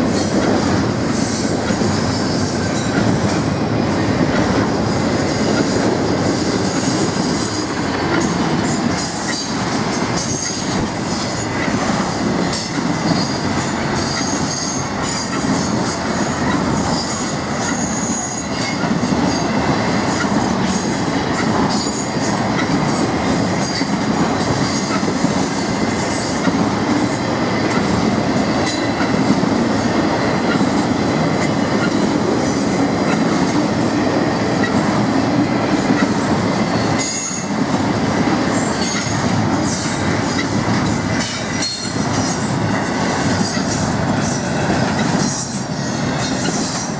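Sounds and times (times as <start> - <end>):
train wheels rumbling on track: 0.0 - 46.9.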